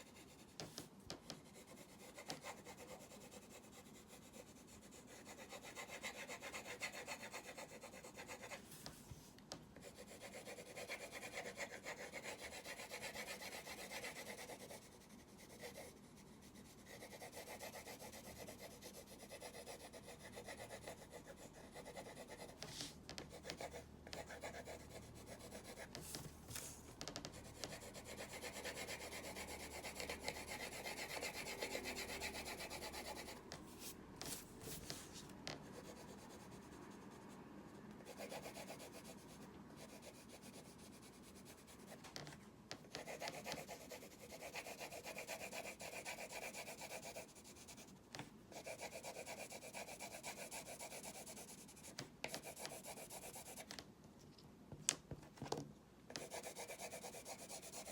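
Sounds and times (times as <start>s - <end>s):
drawing tool scratching on paper: 0.0s - 9.0s, 9.8s - 36.8s, 38.0s - 42.1s, 42.9s - 53.7s, 56.2s - 57.9s.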